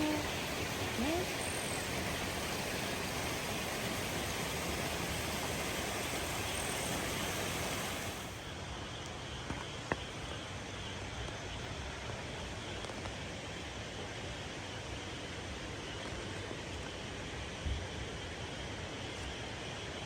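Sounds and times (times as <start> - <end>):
outdoor ambient noise: 0.0 - 20.0.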